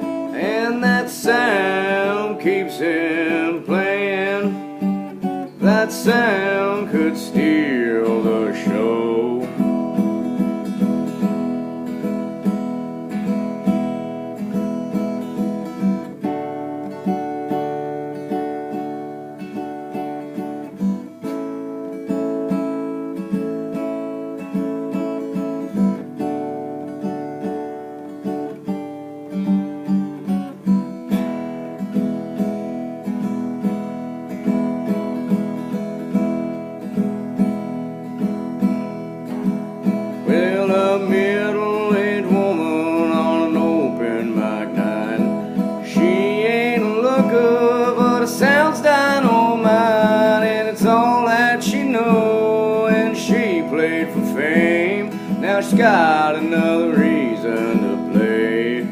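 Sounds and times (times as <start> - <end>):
acoustic guitar strumming: 0.0 - 58.9.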